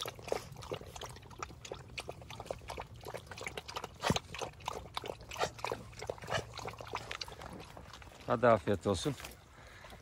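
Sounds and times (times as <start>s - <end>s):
dogs chewing food: 0.0s - 10.0s
dogs lapping water: 0.0s - 10.0s.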